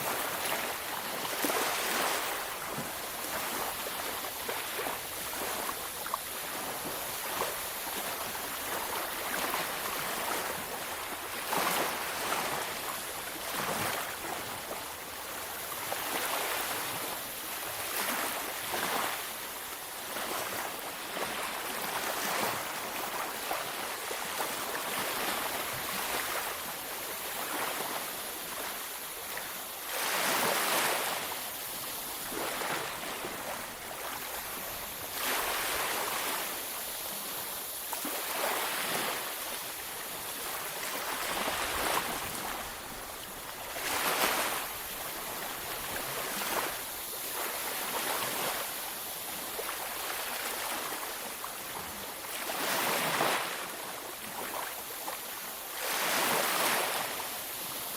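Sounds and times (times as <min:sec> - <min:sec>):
ocean waves washing onto beach: 0:00.0 - 0:57.9.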